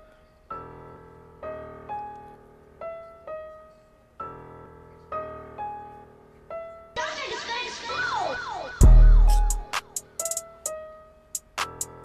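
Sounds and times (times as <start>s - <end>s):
slow keyboard melody: 0.0s - 12.0s.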